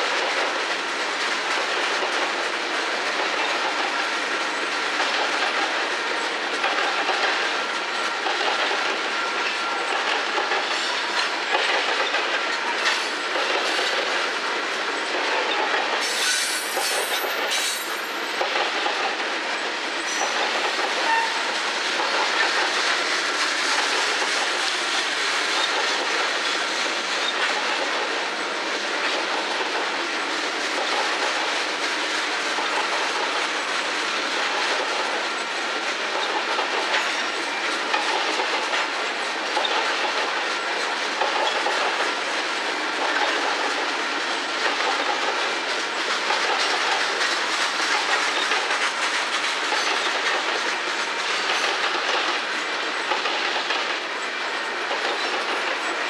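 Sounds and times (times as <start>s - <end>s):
train wheels rumbling on rails: 0.0s - 56.0s
wheels clicking over rail joints: 0.0s - 56.0s.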